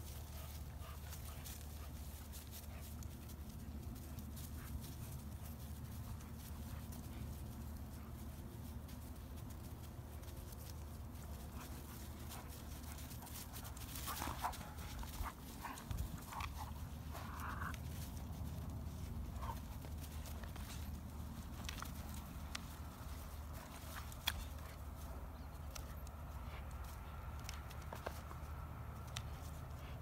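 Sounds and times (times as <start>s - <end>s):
dogs scuffling on dry grass: 0.0s - 30.0s.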